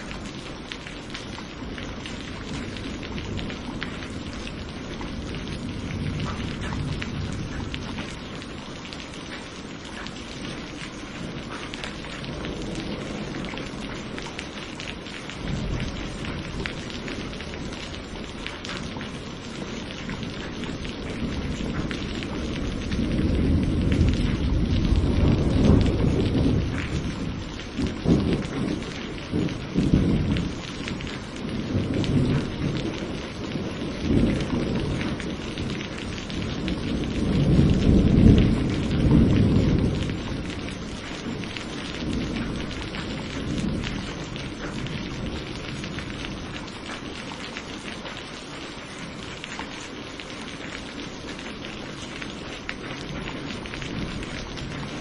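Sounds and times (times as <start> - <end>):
rain hissing: 0.0 - 55.0
rolling thunder: 1.7 - 9.0, 10.4 - 46.7, 52.9 - 55.0.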